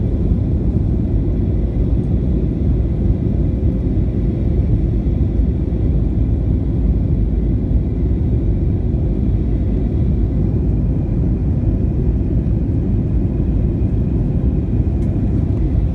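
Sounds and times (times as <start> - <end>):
air rushing along fuselage: 0.0 - 15.9
aircraft cabin engine rumble: 0.0 - 15.9.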